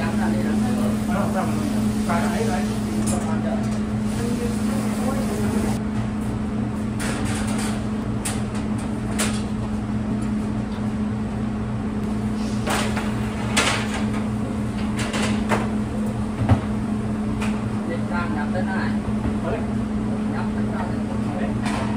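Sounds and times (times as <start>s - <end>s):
low machine hum: 0.0s - 21.9s.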